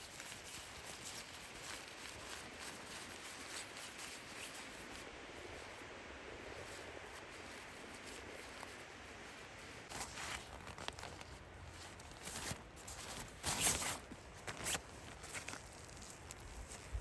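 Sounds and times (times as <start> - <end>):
handling noises: 0.0 - 5.8, 6.4 - 17.0
faint steady background noise: 0.0 - 17.0.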